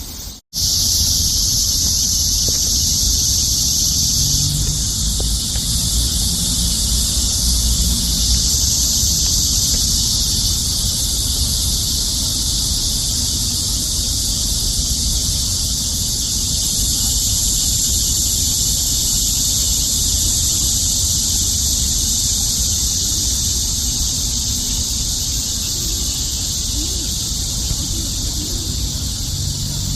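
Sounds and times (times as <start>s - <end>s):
insect chorus: 0.0s - 29.9s.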